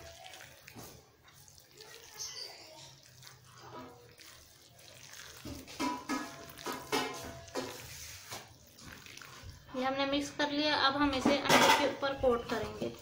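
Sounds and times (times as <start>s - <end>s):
wet squishing of kneading: 0.0s - 11.2s.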